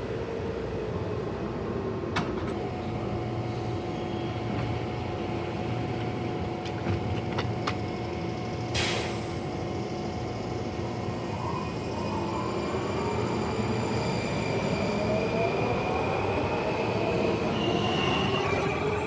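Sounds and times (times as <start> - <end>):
train humming at platform: 0.0 - 19.0.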